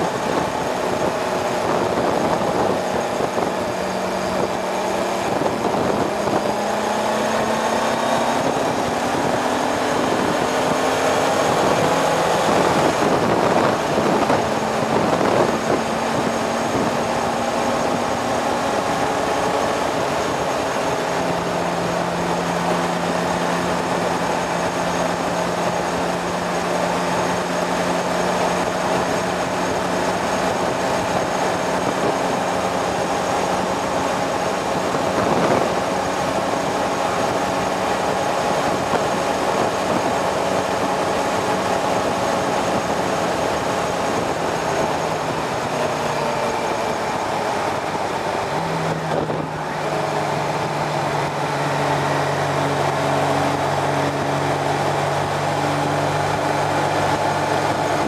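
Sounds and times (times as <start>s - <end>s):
wind noise rush: 0.0s - 58.0s.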